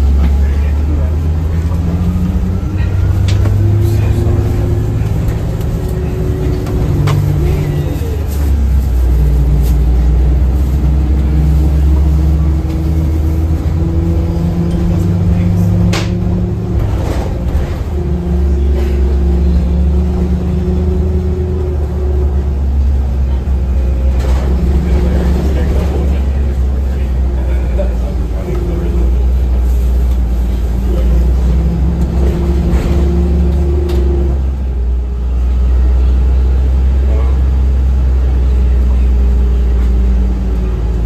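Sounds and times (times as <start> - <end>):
bus drivetrain hum with whine: 0.0 - 41.0.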